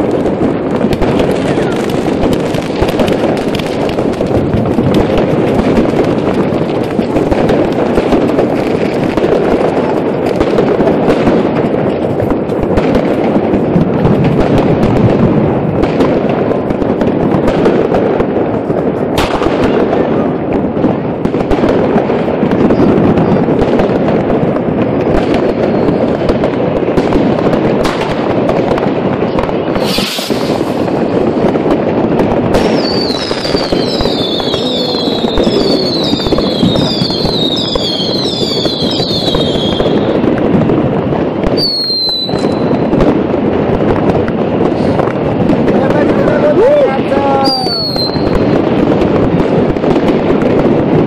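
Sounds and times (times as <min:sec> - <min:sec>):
fireworks crackling: 0:00.0 - 0:51.0
sharp firework bang: 0:00.0 - 0:51.0.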